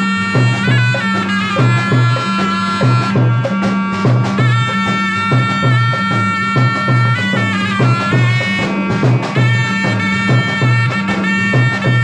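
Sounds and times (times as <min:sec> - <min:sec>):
regular drum beat: 0:00.0 - 0:12.0
shrill reed pipe melody: 0:00.0 - 0:12.0.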